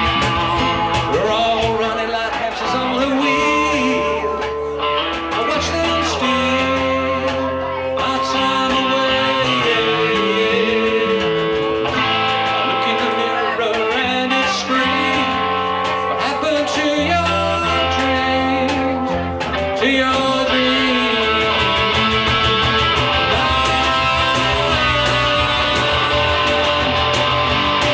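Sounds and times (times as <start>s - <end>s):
band playing live: 0.0s - 27.9s
guitar with bending notes: 0.0s - 27.9s.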